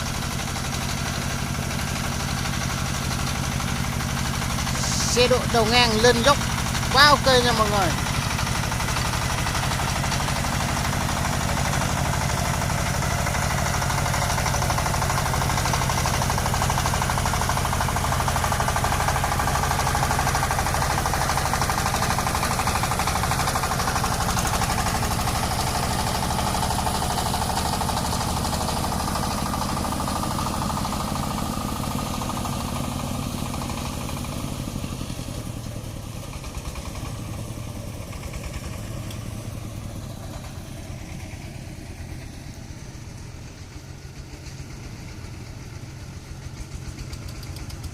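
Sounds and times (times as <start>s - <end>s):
diesel engine labouring: 0.0s - 47.9s.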